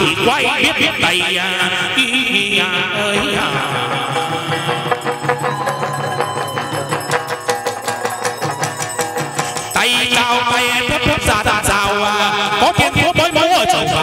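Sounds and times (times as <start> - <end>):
fast clicking percussion: 0.9 - 14.0.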